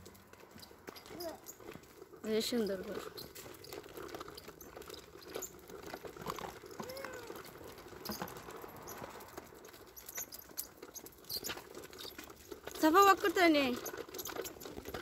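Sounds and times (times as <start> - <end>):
footsteps on pavement: 0.0 - 15.0
small rustles: 0.0 - 15.0.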